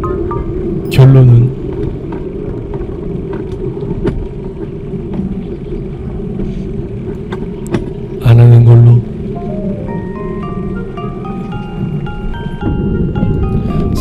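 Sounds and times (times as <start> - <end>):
road and traffic rumble: 0.0 - 14.0.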